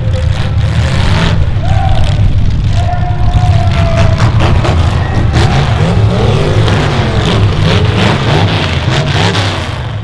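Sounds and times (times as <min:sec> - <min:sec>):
car engines revving hard: 0:00.0 - 0:10.0.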